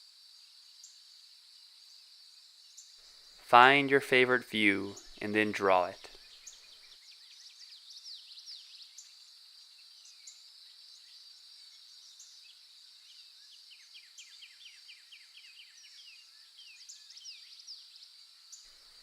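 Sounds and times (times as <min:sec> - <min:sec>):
bird chirps: 0:02.7 - 0:19.0.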